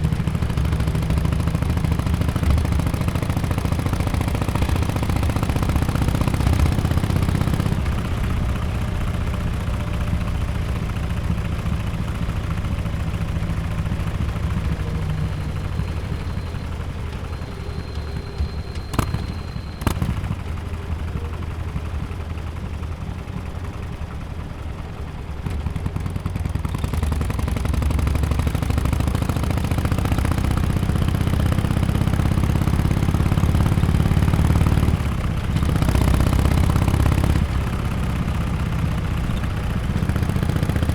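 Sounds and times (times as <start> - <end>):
motorcycle engine exhaust: 0.0 - 40.9.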